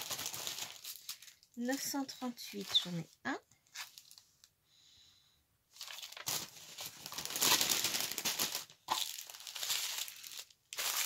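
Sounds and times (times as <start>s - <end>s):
plastic sachets crinkling: 0.0s - 4.5s, 5.7s - 11.0s.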